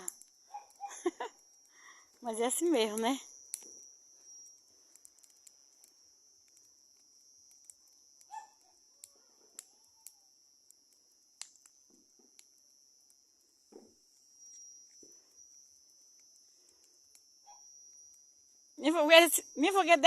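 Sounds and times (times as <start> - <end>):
steady high-pitched whine: 0.0 - 20.0.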